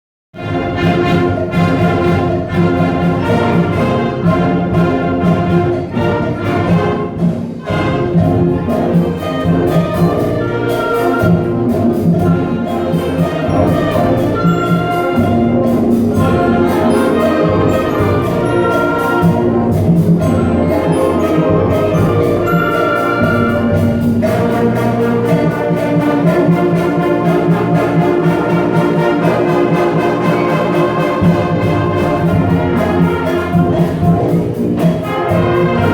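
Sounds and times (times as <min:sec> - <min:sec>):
brass chords: 0:00.4 - 0:35.9
percussion strikes: 0:00.4 - 0:35.9.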